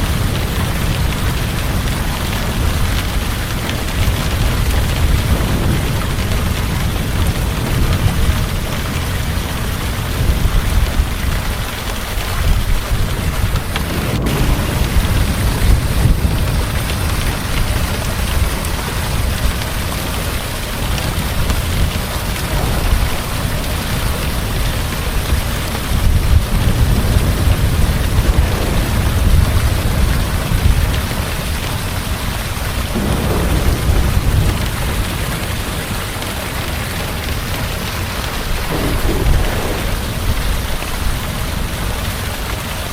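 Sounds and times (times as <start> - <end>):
heavy rain: 0.0 - 42.9
thunder rumbling: 0.0 - 42.9.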